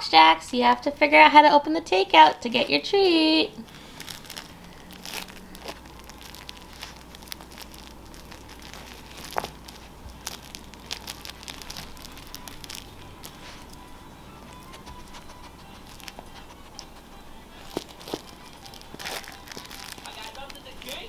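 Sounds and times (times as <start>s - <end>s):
dog chewing crinkly toy: 0.6s - 21.0s.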